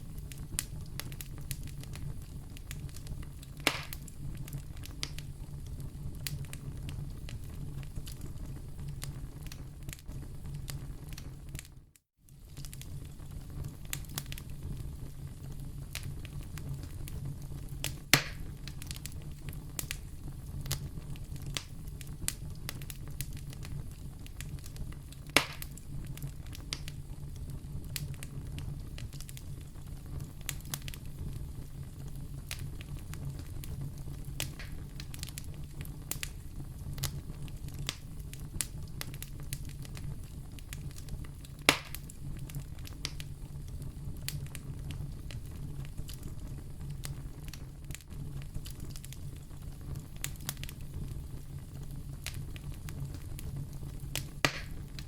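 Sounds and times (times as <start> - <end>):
burning logs popping: 0.0 - 55.0
low rumble of flames: 0.0 - 55.0
wood fire crackling: 0.0 - 55.0.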